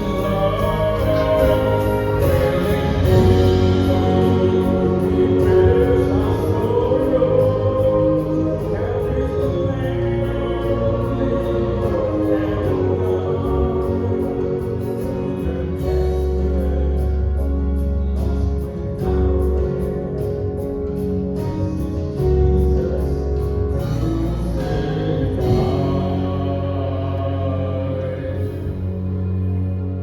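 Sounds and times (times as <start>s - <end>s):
choir singing long notes: 0.0s - 20.2s, 22.4s - 30.0s
instrumental accompaniment: 0.0s - 30.0s
low bass note: 0.0s - 30.0s.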